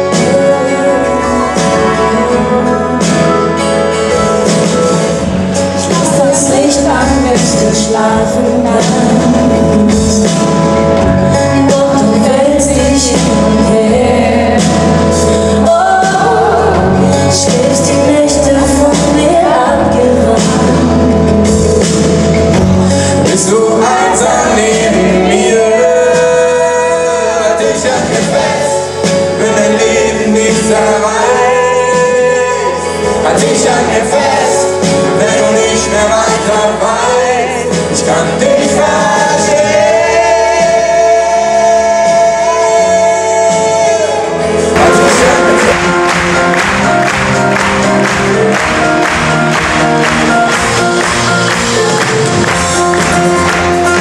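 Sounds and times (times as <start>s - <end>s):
live pop-rock band with singing: 0.0s - 54.0s.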